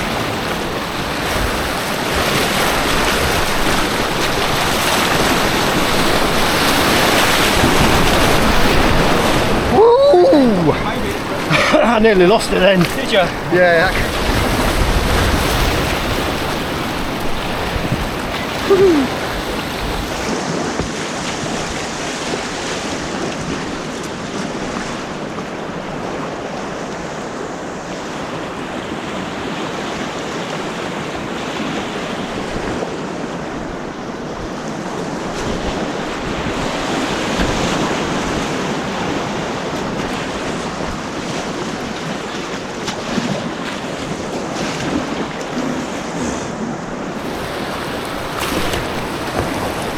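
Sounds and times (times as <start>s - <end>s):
white water rushing: 0.0s - 49.9s.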